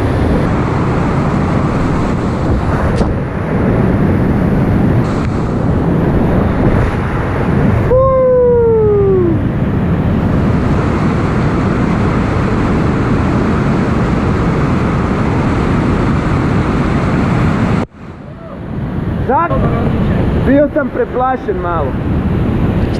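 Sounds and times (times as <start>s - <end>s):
whitewater rushing: 0.0s - 22.9s.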